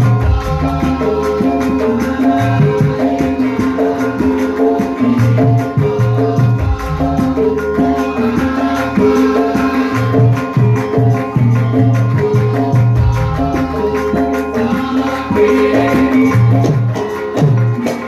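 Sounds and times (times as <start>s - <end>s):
gamelan ensemble playing: 0.0s - 18.0s.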